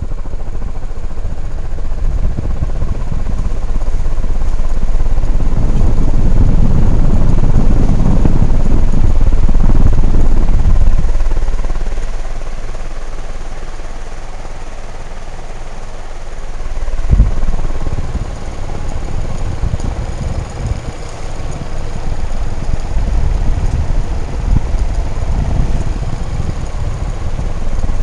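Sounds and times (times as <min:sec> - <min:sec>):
wind buffeting microphone: 0:00.0 - 0:14.1, 0:14.7 - 0:28.0
ceiling fan whooshing: 0:00.0 - 0:28.0.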